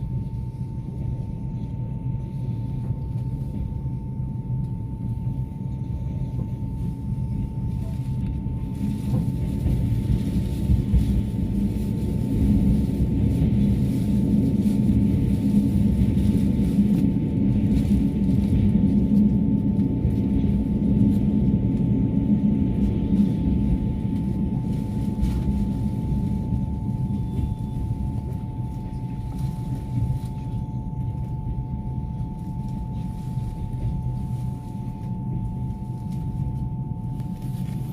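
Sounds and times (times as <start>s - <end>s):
faint steady whine: 0.0s - 37.9s
train wheels rumbling on rails: 5.4s - 37.9s.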